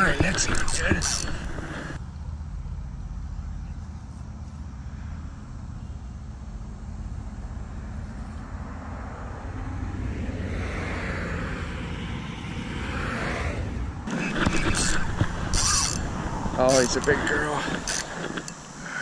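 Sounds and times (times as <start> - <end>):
road traffic: 0.0 - 19.0
vehicle passing by: 1.9 - 18.3.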